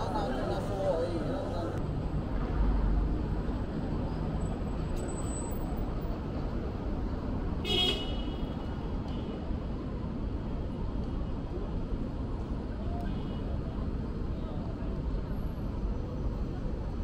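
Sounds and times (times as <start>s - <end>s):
street traffic engine rumble: 0.0s - 17.0s.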